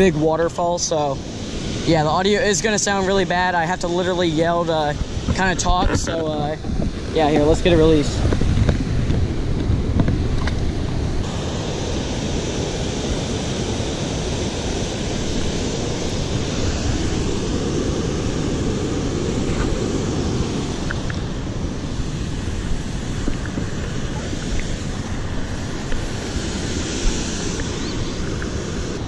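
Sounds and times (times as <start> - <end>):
waterfall rushing: 0.0 - 8.3, 11.0 - 29.0.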